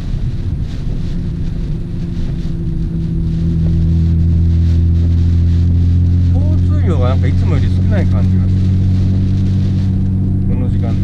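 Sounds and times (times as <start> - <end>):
car engine droning from inside cabin: 0.0 - 11.0.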